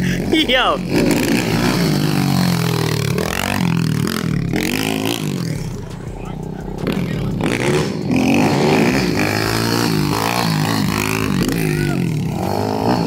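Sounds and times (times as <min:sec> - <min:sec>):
pit bike engines revving: 0:00.0 - 0:13.0.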